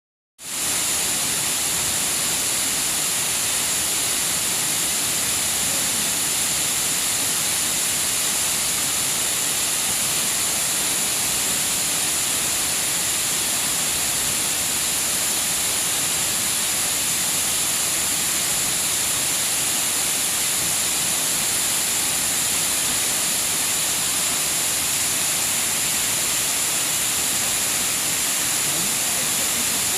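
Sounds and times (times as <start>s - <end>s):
waterfall hissing: 0.4s - 29.9s.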